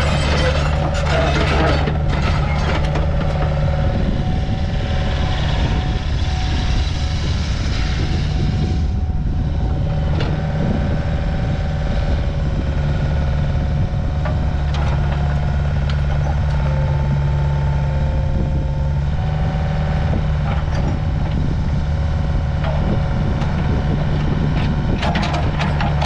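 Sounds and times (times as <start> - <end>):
excavator diesel engine running: 0.0 - 26.0
steady whine: 0.0 - 26.0.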